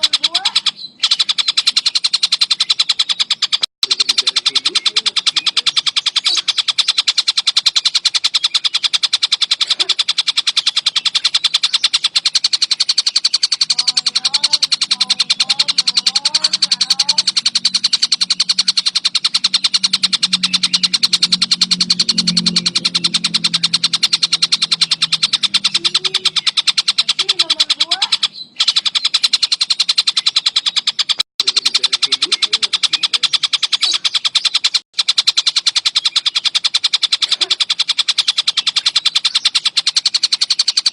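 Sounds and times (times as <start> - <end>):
faint chirps: 0.0 - 40.9
kingfisher trilling: 0.0 - 40.9.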